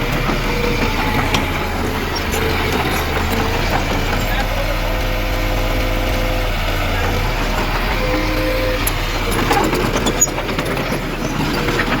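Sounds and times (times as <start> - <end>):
clicks and clanks: 0.0 - 4.6, 6.8 - 12.0
heavy diesel engine running: 0.0 - 12.0.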